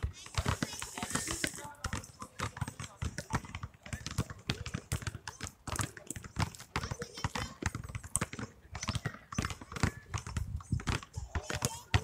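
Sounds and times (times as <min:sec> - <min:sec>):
basketballs bouncing on asphalt: 0:00.0 - 0:12.0.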